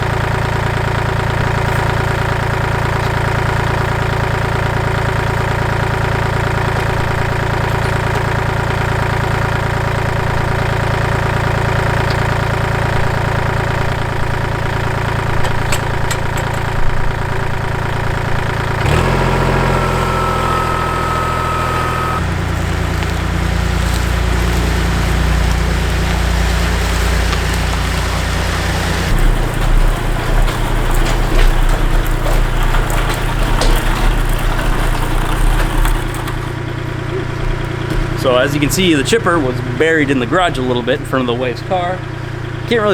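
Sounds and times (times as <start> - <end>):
clatter: 0.0 - 39.6
tractor diesel engine running: 0.0 - 42.9.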